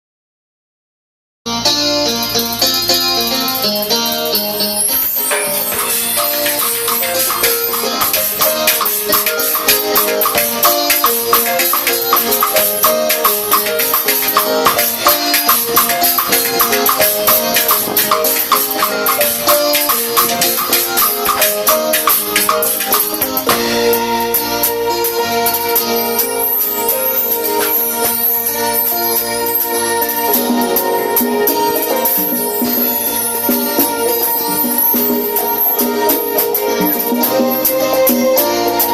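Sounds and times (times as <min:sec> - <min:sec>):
live band music: 0:01.5 - 0:38.9.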